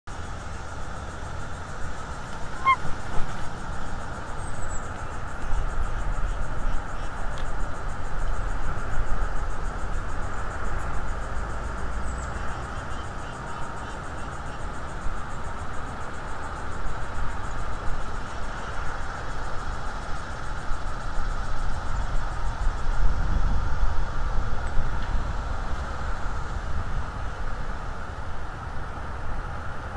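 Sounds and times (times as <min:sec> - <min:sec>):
constant hiss: 0:00.1 - 0:29.9
insects trilling: 0:00.1 - 0:29.9.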